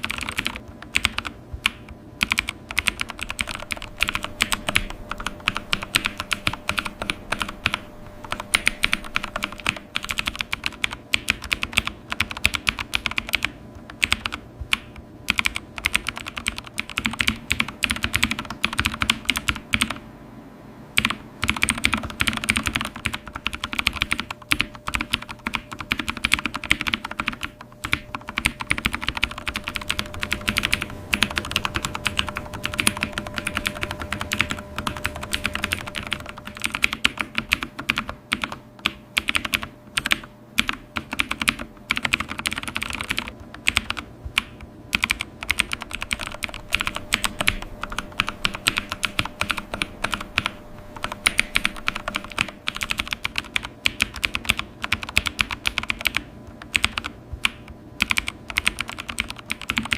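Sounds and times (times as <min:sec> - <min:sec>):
typing on computer keyboard: 0:00.0 - 0:20.0, 0:21.0 - 0:59.9.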